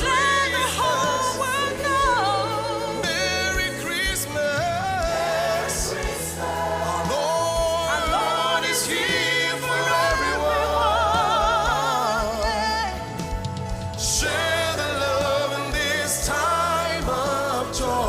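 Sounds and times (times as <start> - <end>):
bass line: 0.0 - 18.0
gospel choir singing: 0.0 - 18.0.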